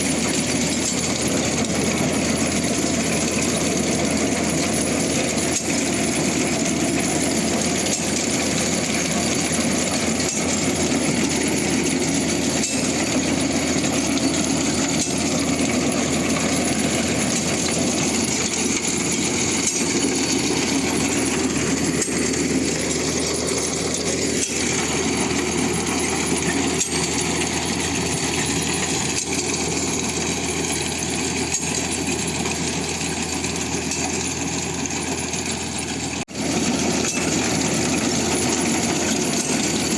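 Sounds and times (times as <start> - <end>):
metallic clatter of potato digger: 0.0 - 39.9
tractor diesel engine running: 0.0 - 39.9.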